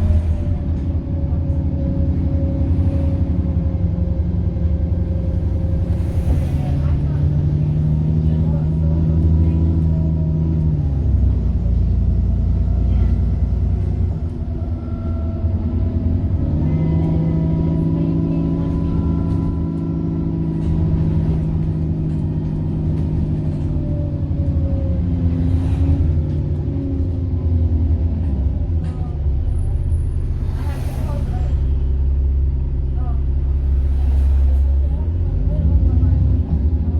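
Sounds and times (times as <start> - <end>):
diesel bus engine under load: 0.0 - 36.9.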